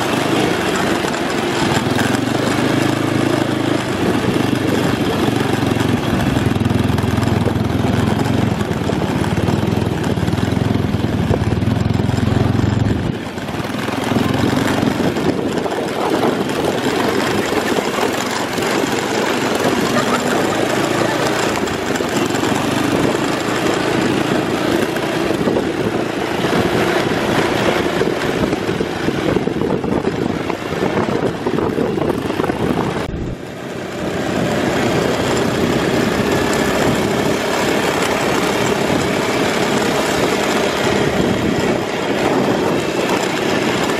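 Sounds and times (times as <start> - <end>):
go-kart engine running: 0.0 - 43.9.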